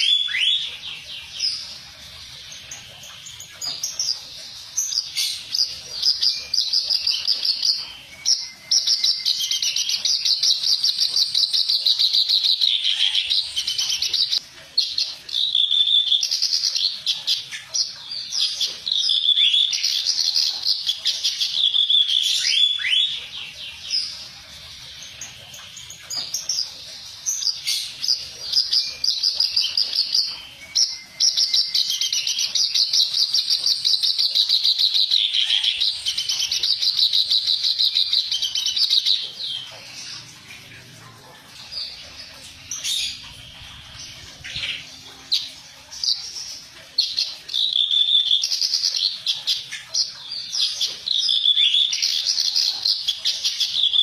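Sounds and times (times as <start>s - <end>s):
warbler chattering song: 0.0s - 54.0s.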